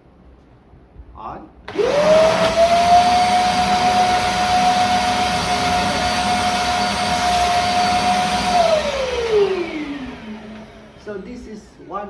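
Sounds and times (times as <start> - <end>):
vacuum cleaner motor whine: 1.7 - 12.0.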